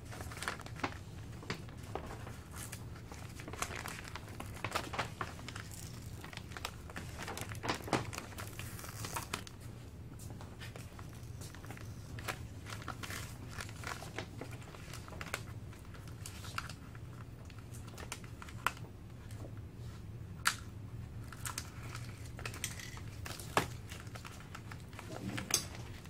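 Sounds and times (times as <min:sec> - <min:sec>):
plastic sheet crinkling: 0:00.0 - 0:19.6, 0:21.1 - 0:26.0.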